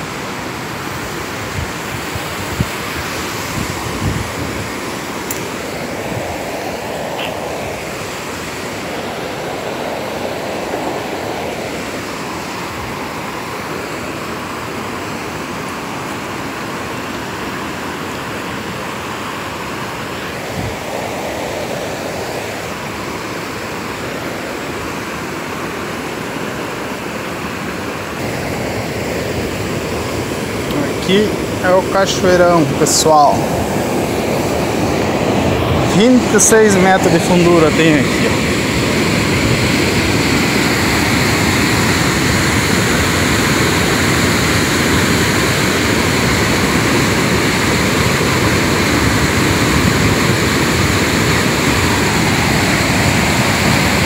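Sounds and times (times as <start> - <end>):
rushing white water: 0.0 - 54.0.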